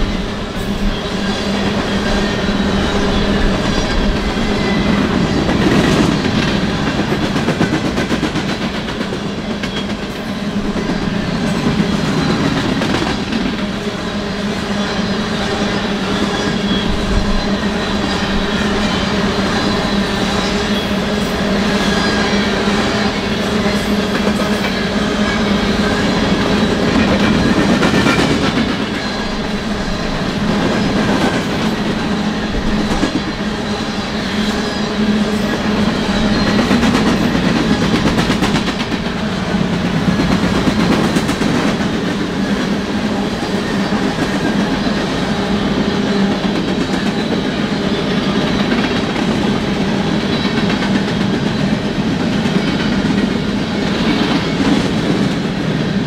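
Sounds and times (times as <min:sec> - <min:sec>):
train wheels rumbling on rail: 0:00.0 - 0:56.0
clickety-clack over rail joints: 0:01.5 - 0:13.9, 0:16.3 - 0:56.0.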